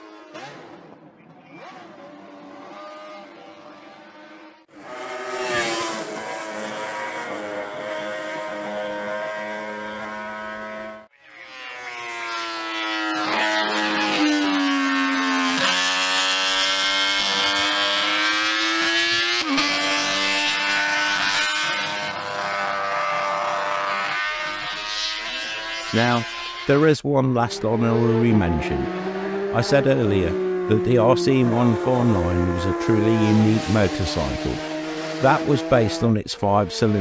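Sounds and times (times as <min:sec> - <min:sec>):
racing motorcycle revving past: 0:00.0 - 0:26.8, 0:27.6 - 0:37.0.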